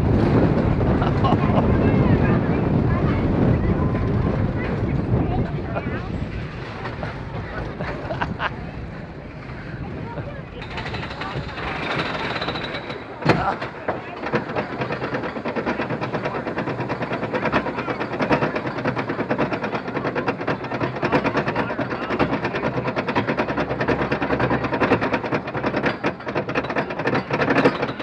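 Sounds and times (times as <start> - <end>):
lift chain clacking: 0.0 - 28.0.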